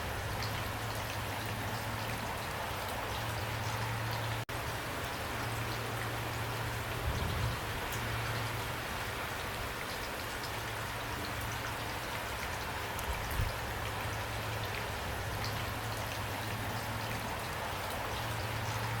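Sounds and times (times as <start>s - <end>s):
heavy rain pattering: 0.0s - 19.0s.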